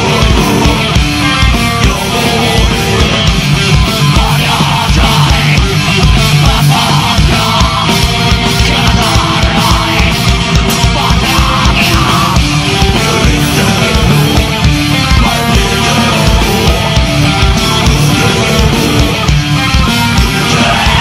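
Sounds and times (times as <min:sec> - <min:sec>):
distorted electric guitars: 0:00.0 - 0:21.0
keyboards: 0:00.0 - 0:21.0.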